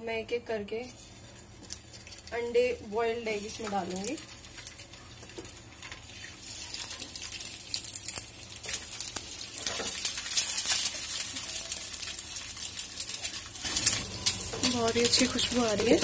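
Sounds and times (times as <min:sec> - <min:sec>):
eggs sizzling in a frying pan: 0:00.4 - 0:16.0.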